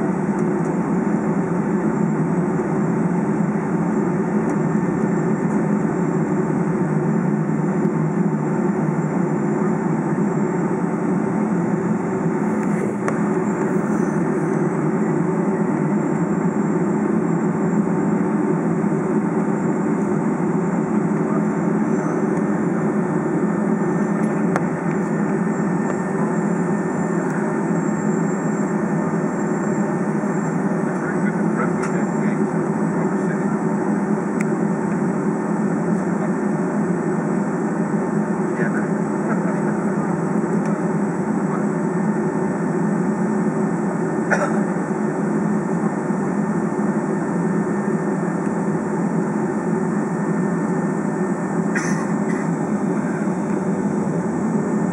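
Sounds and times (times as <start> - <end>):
jet engines idling: 0.0 - 54.9.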